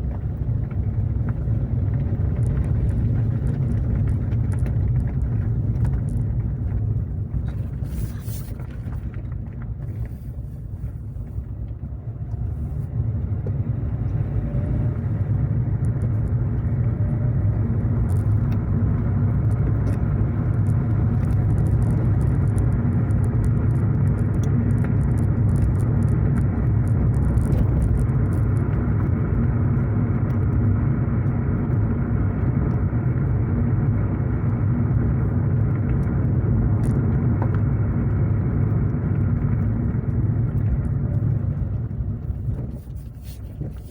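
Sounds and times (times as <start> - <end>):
car engine and tyres rumble: 0.0 - 43.9.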